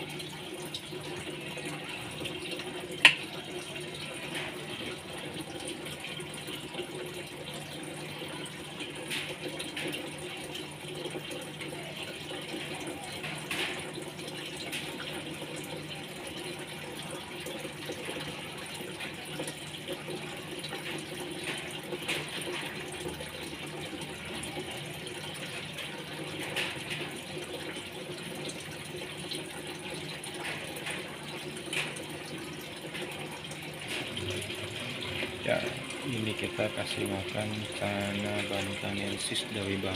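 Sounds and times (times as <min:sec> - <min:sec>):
aquarium water trickling: 0:00.0 - 0:39.9
low pump hum: 0:00.0 - 0:39.9.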